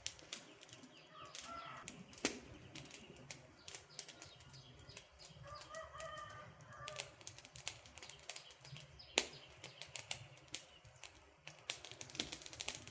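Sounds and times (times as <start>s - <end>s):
campfire crackling: 0.0s - 12.9s.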